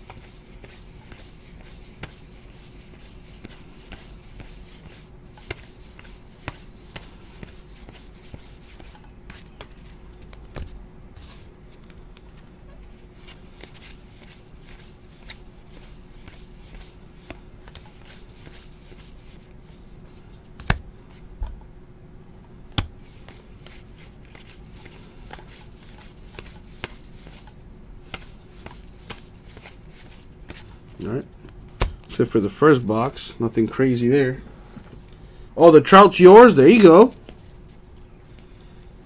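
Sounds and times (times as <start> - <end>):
cards sliding and ticking: 0.0 - 19.5, 22.7 - 33.2, 36.6 - 38.9
faint steady hum: 0.0 - 39.0.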